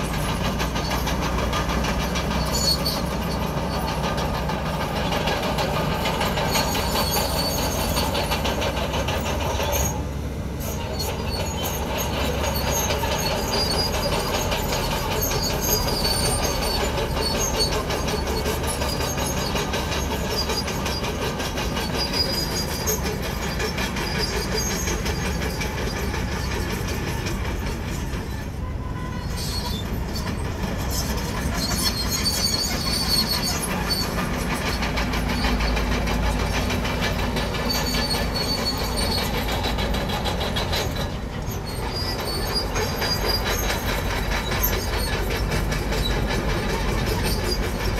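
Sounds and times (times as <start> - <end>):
bulldozer diesel engine running: 0.0 - 47.9
steel tracks clattering and squealing: 0.0 - 47.9.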